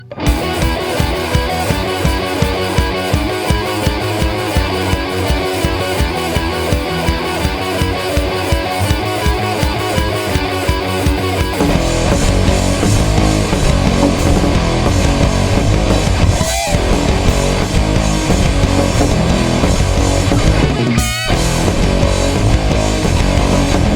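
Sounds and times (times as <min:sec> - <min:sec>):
rock song with guitar and drums: 0:00.0 - 0:23.9.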